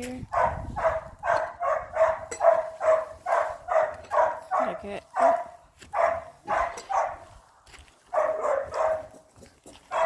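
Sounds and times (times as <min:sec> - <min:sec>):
dog barking: 0:00.3 - 0:07.3, 0:08.1 - 0:09.3.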